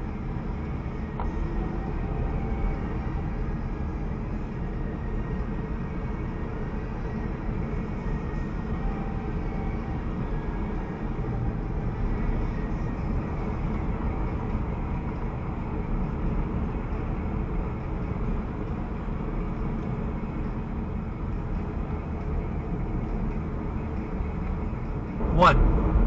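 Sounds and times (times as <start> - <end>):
road noise inside moving car: 0.0 - 26.0.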